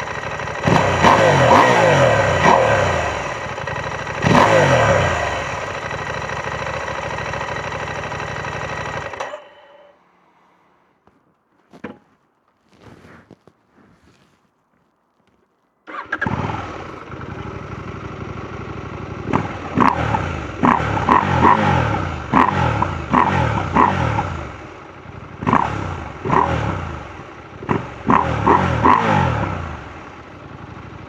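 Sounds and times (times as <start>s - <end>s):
motorcycle engine idling and revving: 0.0s - 10.0s, 15.9s - 31.0s.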